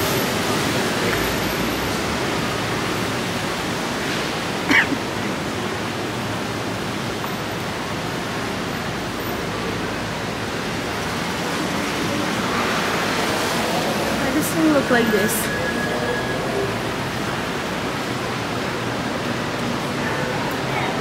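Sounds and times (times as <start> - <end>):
traffic on wet road: 0.0 - 21.0.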